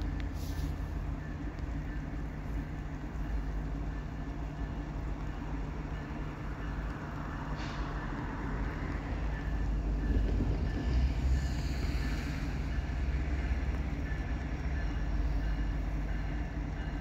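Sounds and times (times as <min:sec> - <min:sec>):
diesel locomotive engine rumbling: 0:00.0 - 0:17.0.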